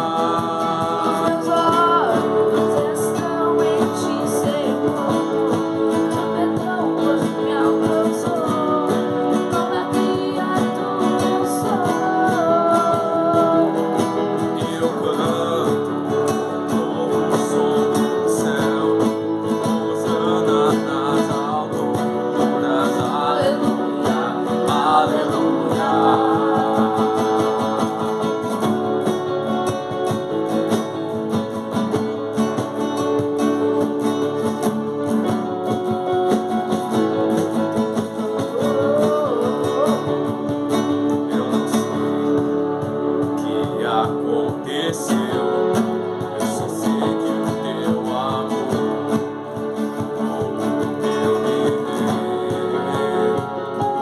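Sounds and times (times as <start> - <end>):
person singing: 0.0 - 29.4, 38.1 - 54.0
guitar accompaniment: 0.0 - 54.0.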